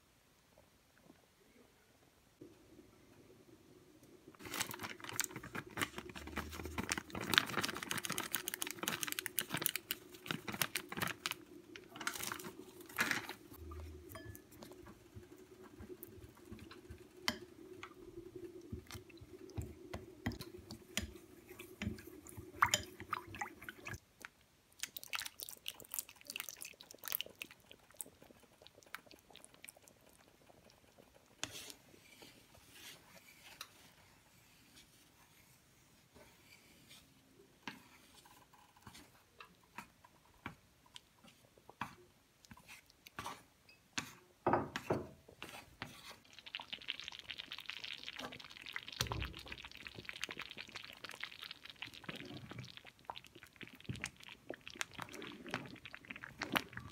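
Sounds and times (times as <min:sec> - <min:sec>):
stirring thick soup in a pot: 0:08.7 - 0:56.9.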